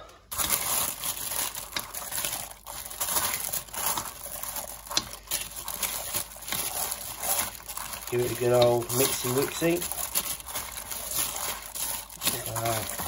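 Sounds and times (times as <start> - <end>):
plastic liner crinkling: 0.0 - 13.0.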